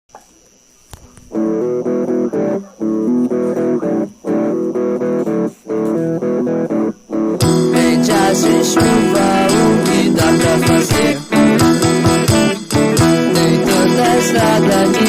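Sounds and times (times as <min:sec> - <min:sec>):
guitar picking a riff: 0:01.2 - 0:15.0.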